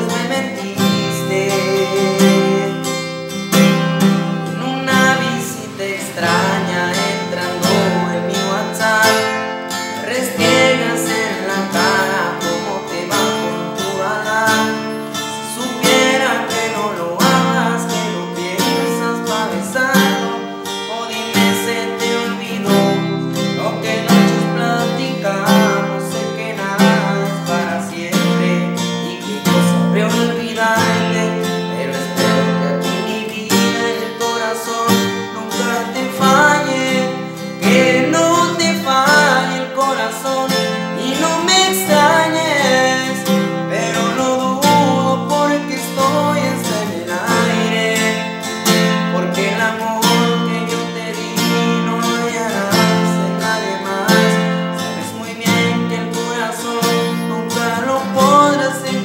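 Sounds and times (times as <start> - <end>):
man singing: 0.0 - 59.0
strummed acoustic guitar: 0.0 - 59.0.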